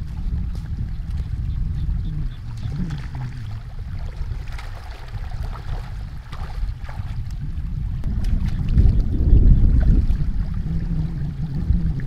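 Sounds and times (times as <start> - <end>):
bare feet wading through water: 0.0 - 12.0
wind rumble on microphone: 0.0 - 12.0.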